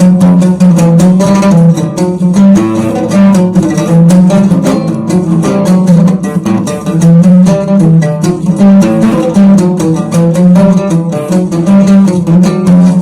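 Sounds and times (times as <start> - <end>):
instrumental music with steady beat: 0.0 - 13.0.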